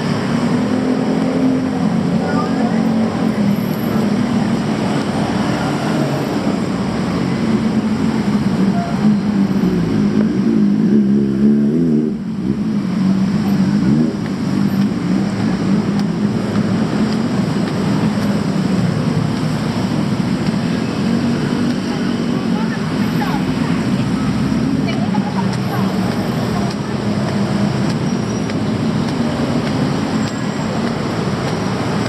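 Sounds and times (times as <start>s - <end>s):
street traffic: 0.0s - 32.0s.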